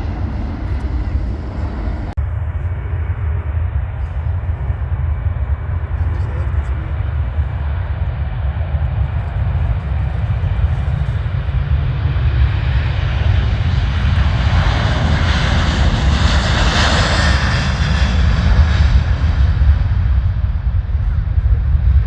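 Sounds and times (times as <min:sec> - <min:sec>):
jet plane passing overhead: 0:00.0 - 0:22.0.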